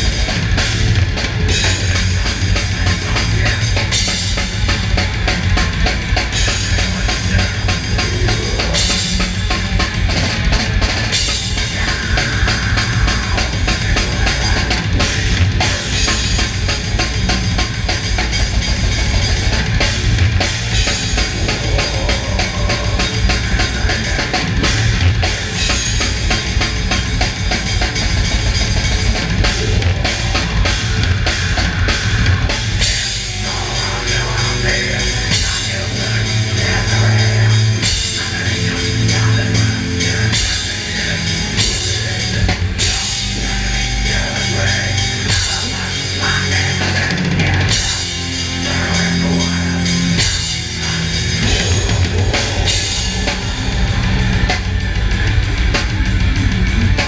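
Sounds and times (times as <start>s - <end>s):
drum kit with crashing cymbals: 0.0s - 57.0s
heavy guitars and bass: 0.0s - 57.0s.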